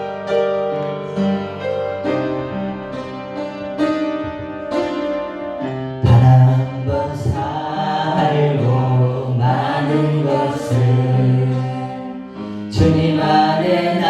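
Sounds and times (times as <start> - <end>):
keyboard chords over bass notes: 0.0 - 14.0.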